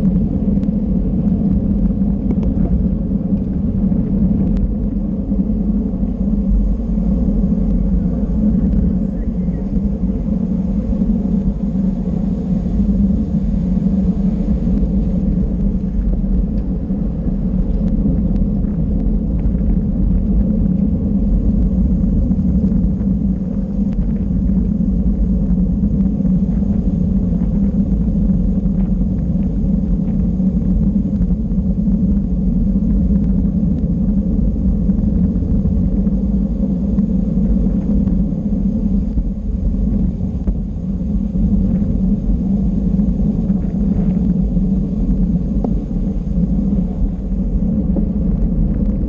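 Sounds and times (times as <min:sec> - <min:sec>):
road rumble: 0:00.0 - 0:49.0
wind rushing: 0:00.0 - 0:49.0.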